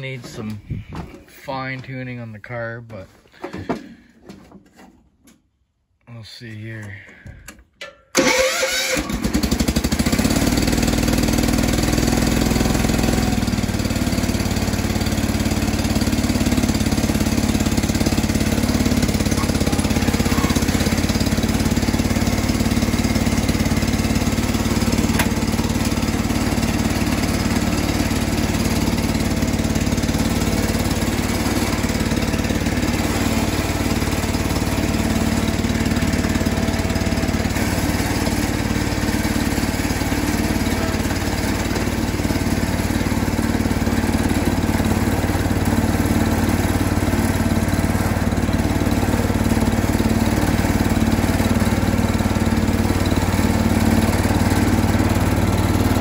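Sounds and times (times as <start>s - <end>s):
garden tractor engine starting and running: 0.0s - 56.0s.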